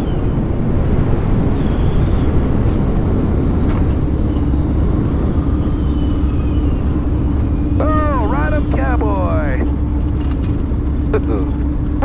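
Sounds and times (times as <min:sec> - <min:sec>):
light aircraft engine and propeller: 0:00.0 - 0:12.0
steady hum: 0:00.0 - 0:12.0.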